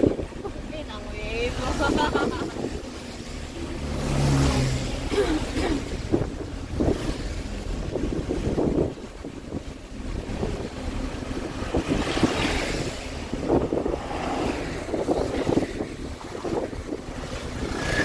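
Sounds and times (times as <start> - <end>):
wind buffeting the microphone: 0.0 - 3.2, 5.8 - 18.0
tyres on a wet road: 0.0 - 18.0
vehicle rumble: 0.0 - 18.0.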